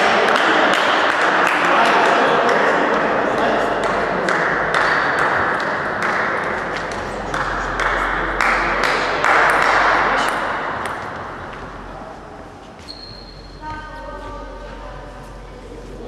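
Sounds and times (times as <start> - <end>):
background hum of hall: 0.0 - 16.0.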